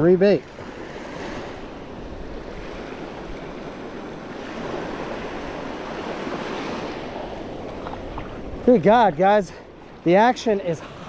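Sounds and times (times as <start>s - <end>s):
small surf waves washing: 0.0s - 11.0s.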